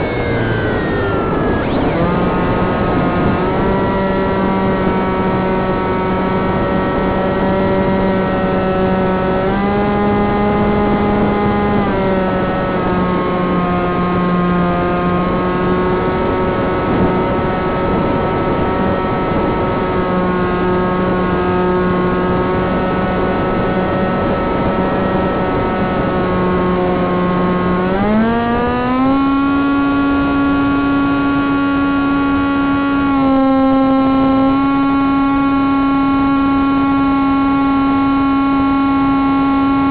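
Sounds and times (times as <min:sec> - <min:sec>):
electric motor propeller whine: 0:00.0 - 0:39.9.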